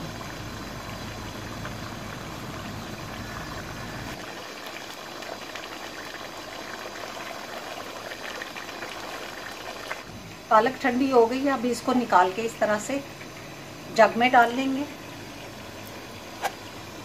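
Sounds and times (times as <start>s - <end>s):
curry bubbling in metal pot: 0.0s - 17.0s.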